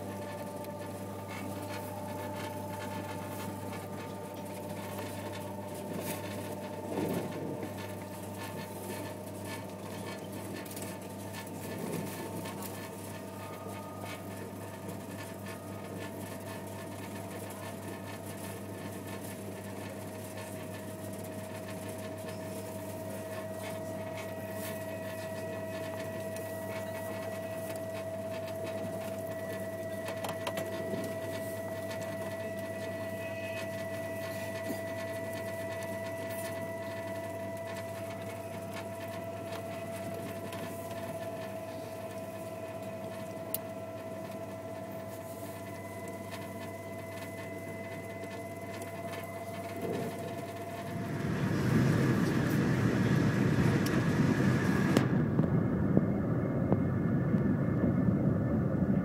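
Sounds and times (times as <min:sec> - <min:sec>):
train interior hum and whine: 0:00.0 - 0:59.0.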